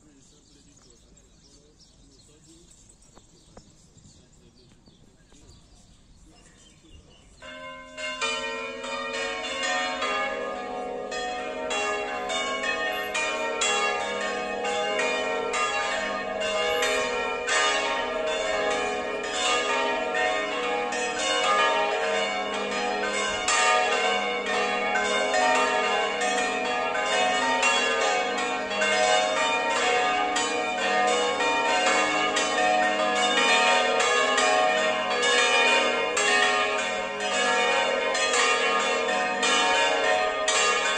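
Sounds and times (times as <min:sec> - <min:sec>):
church bells ringing in full peal: 0:00.0 - 0:02.6, 0:06.1 - 0:40.9.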